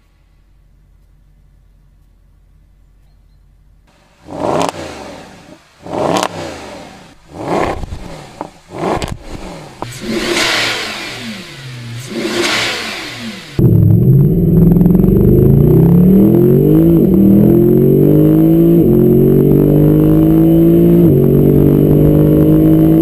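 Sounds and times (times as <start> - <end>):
car engine revving: 3.9 - 23.0.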